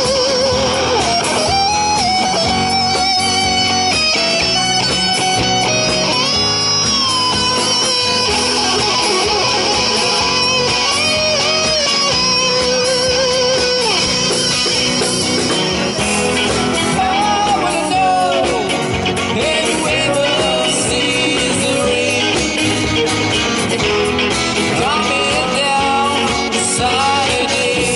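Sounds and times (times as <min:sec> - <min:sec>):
lead guitar with bent notes: 0:00.0 - 0:27.9
rhythm section: 0:00.0 - 0:27.9
strummed guitar: 0:00.0 - 0:27.9.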